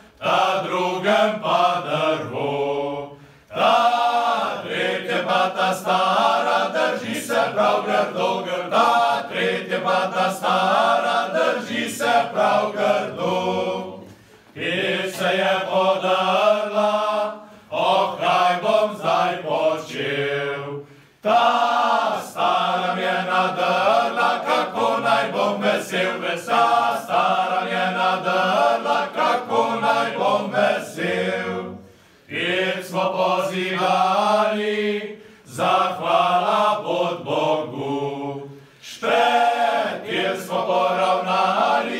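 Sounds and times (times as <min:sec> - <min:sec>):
choir chanting: 0:00.0 - 0:41.9.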